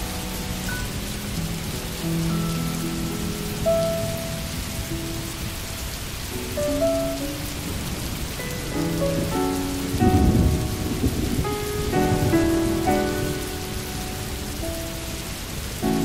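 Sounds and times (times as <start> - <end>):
gentle music of held notes: 0.0 - 16.0
steady rain: 0.0 - 16.0.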